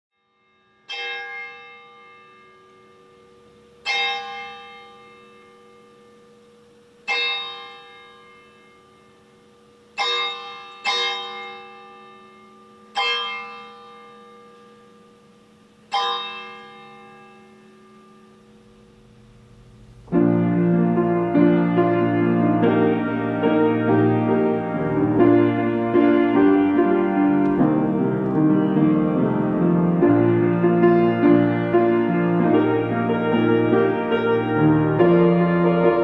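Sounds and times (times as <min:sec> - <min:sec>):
church bell tolling: 0:00.2 - 0:36.0.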